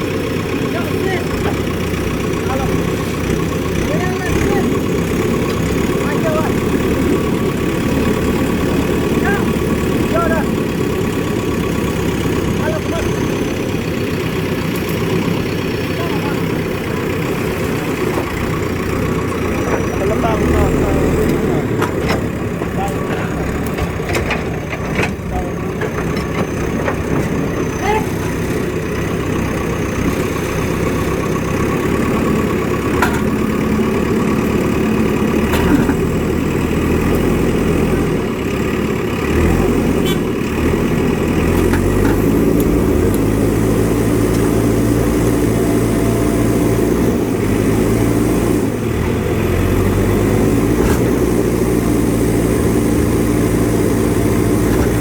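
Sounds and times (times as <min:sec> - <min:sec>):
heavy diesel engines revving: 0:00.0 - 0:55.0.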